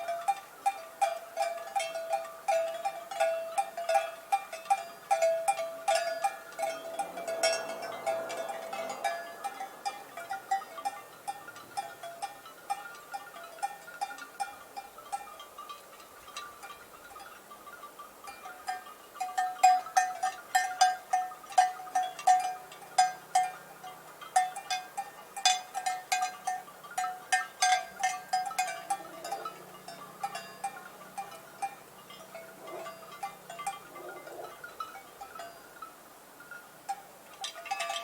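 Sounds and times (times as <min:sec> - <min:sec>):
cowbells clanking: 0:00.0 - 0:38.0.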